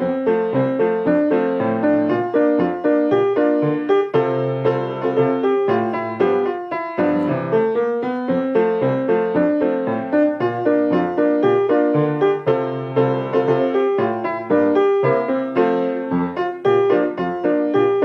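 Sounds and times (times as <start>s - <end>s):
piano playing notes and chords: 0.0s - 18.0s.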